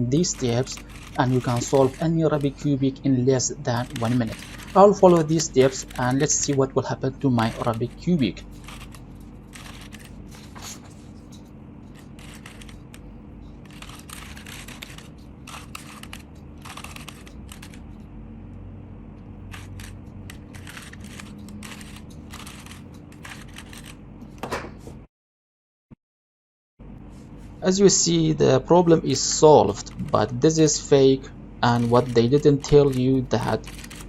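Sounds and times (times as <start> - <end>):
steady low hum: 0.0 - 25.1, 26.8 - 34.0.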